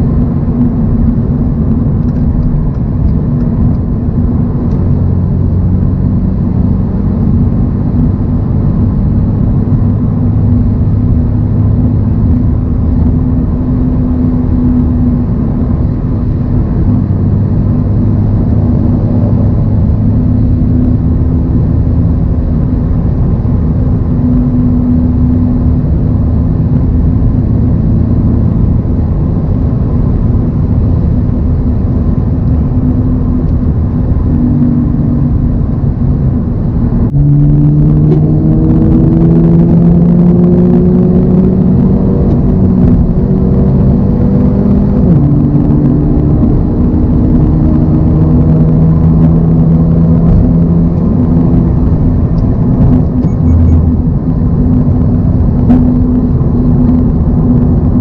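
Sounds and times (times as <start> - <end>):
car engine at cruise: 0.0 - 58.0
road noise: 0.0 - 58.0.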